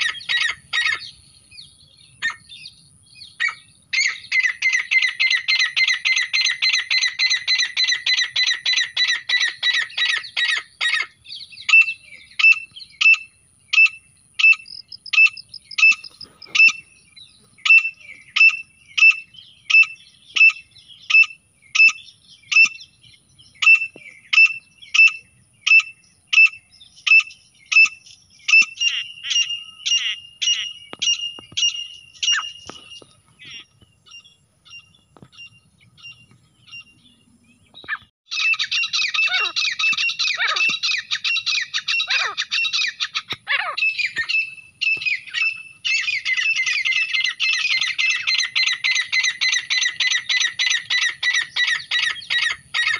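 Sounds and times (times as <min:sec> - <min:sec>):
francolin calling: 0:00.0 - 0:52.9.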